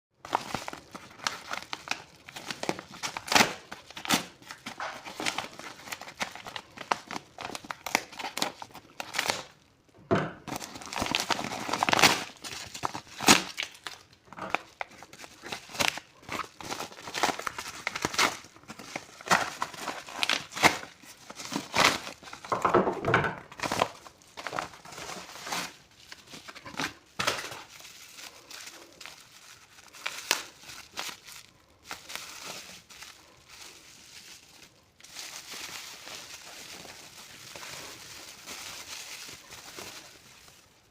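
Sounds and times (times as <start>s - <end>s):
wrappers crinkling and tearing: 0.2s - 9.7s, 10.5s - 22.7s, 23.5s - 40.9s.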